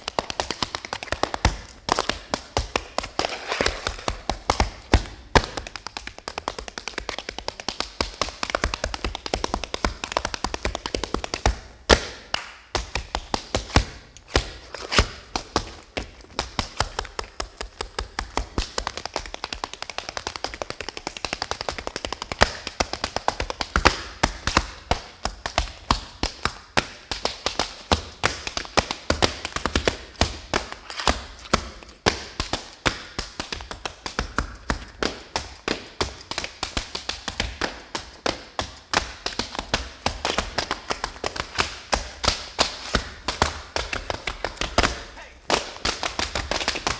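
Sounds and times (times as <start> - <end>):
tap shoes on wooden floor: 0.0 - 46.9.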